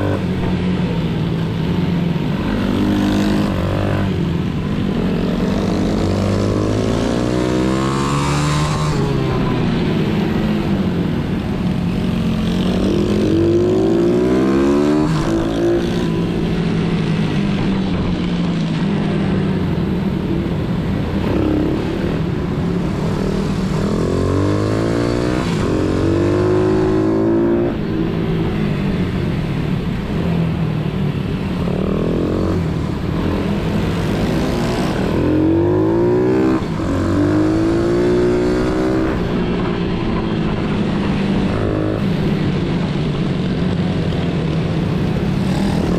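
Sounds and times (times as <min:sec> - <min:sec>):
motorbike engine holding steady note: 0:00.0 - 0:07.7, 0:08.7 - 0:45.9
small motorbike engines revving: 0:00.0 - 0:45.9.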